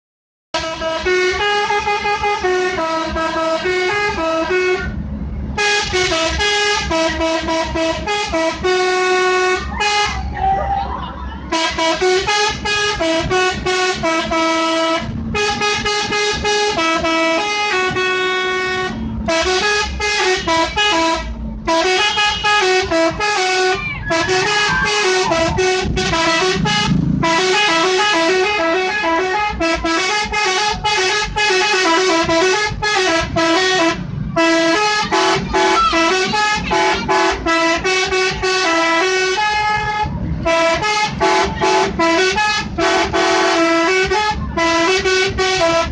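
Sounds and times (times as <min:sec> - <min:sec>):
bus musical horn tootling melodies: 0:00.6 - 0:45.9.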